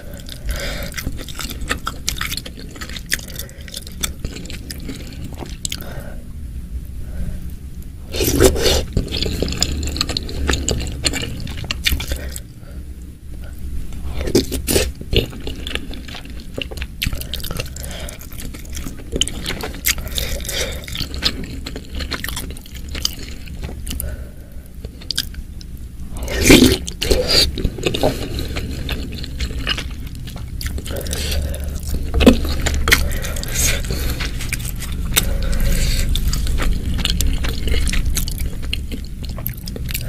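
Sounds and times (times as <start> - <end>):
wet chewing and crunching: 0.0 - 6.0, 8.1 - 12.6, 13.4 - 40.0.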